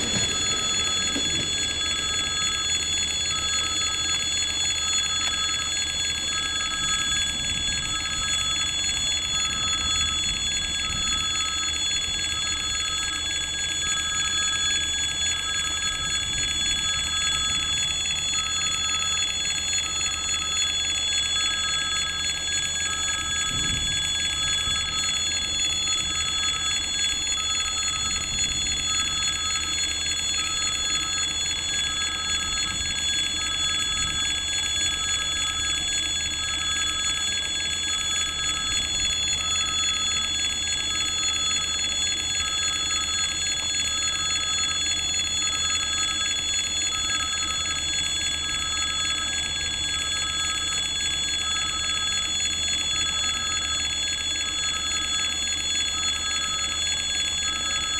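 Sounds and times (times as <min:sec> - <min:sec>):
level-crossing warning bell: 0:00.0 - 0:57.9.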